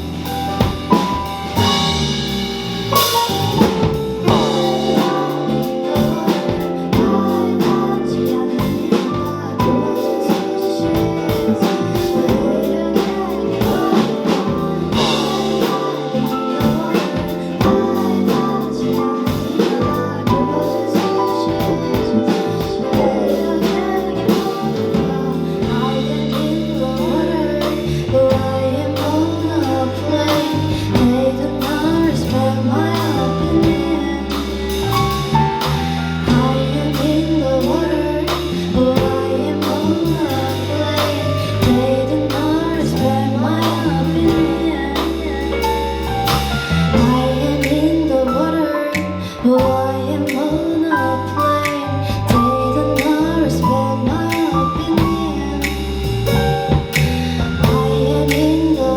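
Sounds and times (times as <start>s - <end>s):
band with bass and drums: 0.0s - 58.9s
female singer singing: 3.5s - 58.9s.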